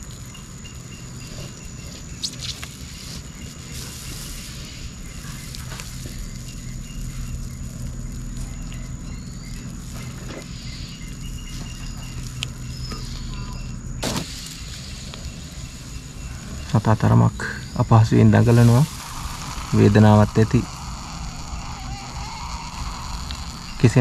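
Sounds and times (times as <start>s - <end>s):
faint chirps: 0.0s - 24.0s
low hum: 0.0s - 24.0s
thin high steady tone: 0.0s - 24.0s.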